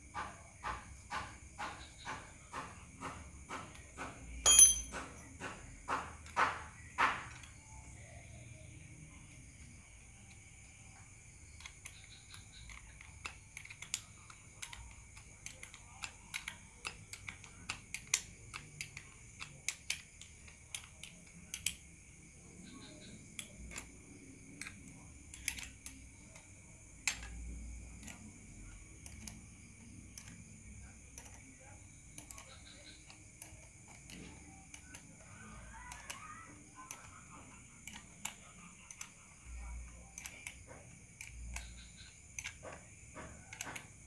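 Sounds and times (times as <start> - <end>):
hand tools clicking and tapping: 0.0 - 7.6, 11.4 - 21.9, 23.0 - 44.0.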